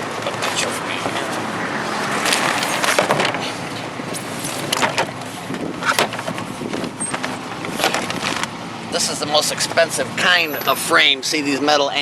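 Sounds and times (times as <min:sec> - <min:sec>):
outdoor traffic background noise: 0:00.0 - 0:12.0.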